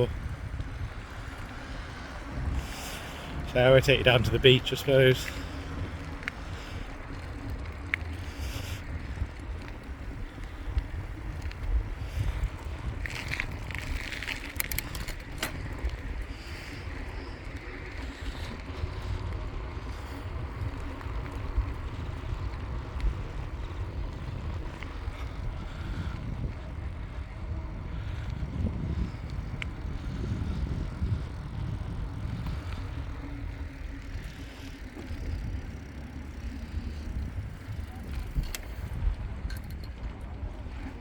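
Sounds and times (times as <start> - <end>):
tyres humming on road: 0.0 - 41.0
wind buffeting microphone: 0.0 - 41.0.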